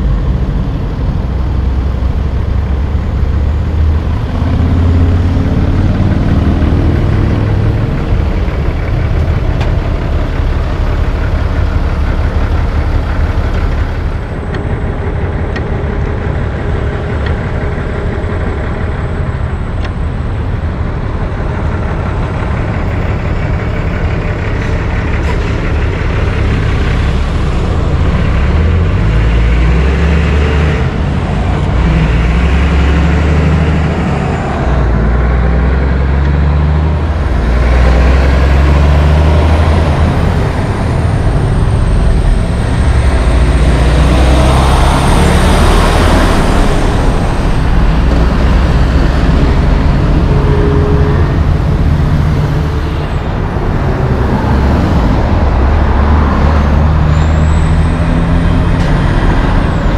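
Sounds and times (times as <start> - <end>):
diesel truck engines rumbling: 0.0 - 59.9
passing road traffic: 0.0 - 59.9.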